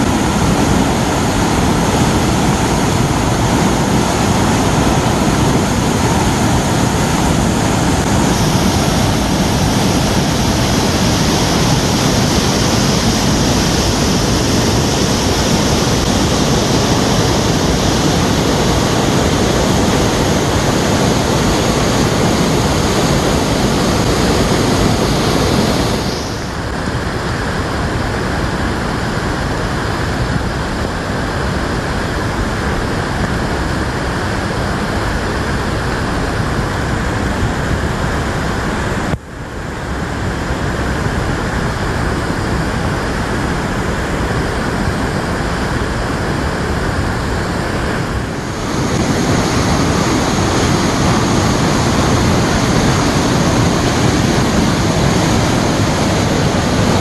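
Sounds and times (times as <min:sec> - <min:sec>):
rushing waterfall roar: 0:00.0 - 0:57.0.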